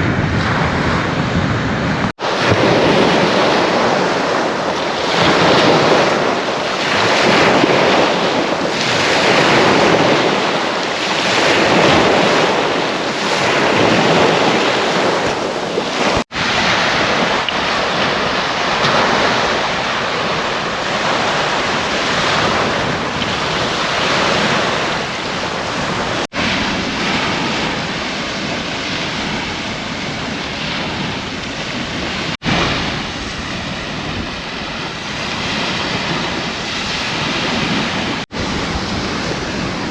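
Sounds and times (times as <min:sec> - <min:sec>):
waves washing onto beach: 0:00.0 - 0:39.9
wind on microphone: 0:00.0 - 0:39.9.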